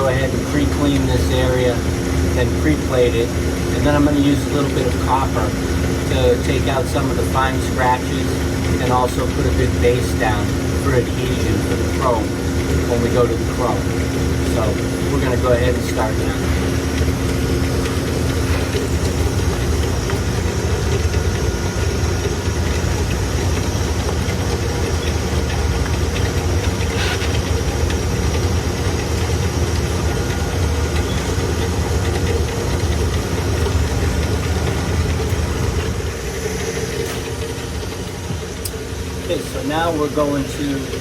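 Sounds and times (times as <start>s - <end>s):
loud machinery drone: 0.0s - 41.0s
steady hum tones: 0.0s - 41.0s.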